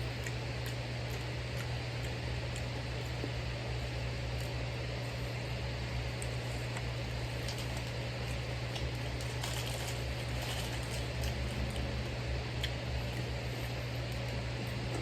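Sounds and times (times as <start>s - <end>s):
chewing food: 0.0s - 15.0s
steady low hum: 0.0s - 15.0s.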